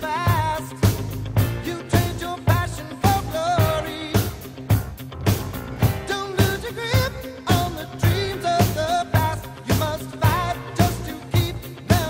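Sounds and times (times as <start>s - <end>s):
pop-rock song with vocals: 0.0s - 12.0s.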